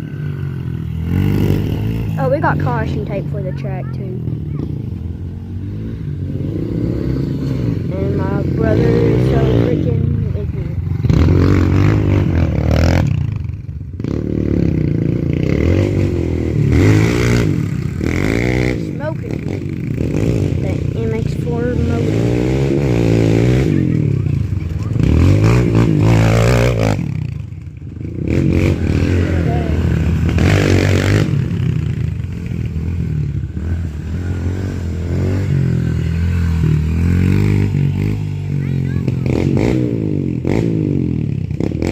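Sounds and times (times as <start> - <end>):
pit bike engines revving: 0.0 - 41.9.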